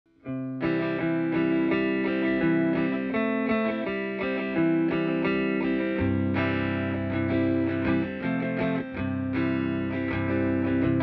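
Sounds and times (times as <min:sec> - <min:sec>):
electric guitar with chorus effect: 0:00.1 - 0:11.0.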